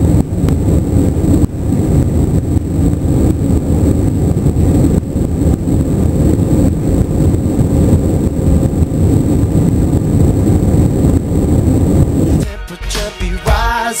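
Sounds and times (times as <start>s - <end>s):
jet engines rumbling in cabin: 0.0s - 12.4s
rushing air: 0.0s - 12.4s
faint high whine: 0.0s - 12.5s.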